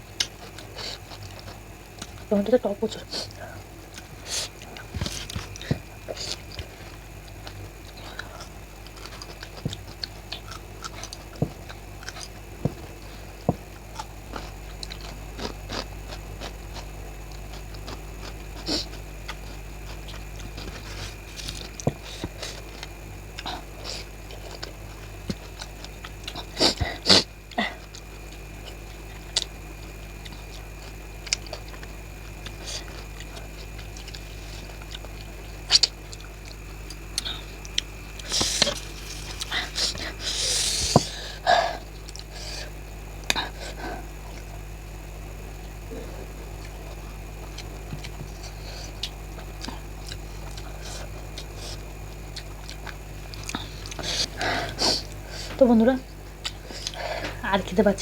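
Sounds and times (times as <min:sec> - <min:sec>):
steady background hum: 0:00.0 - 0:58.0
close-miked chewing: 0:00.1 - 0:58.0.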